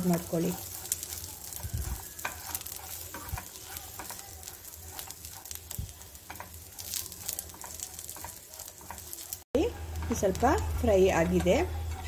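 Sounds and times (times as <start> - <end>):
metal spatula scraping pan: 0.0 - 12.0
nuts sizzling in ghee: 0.0 - 12.0
spatula knocking pan: 0.0 - 12.0.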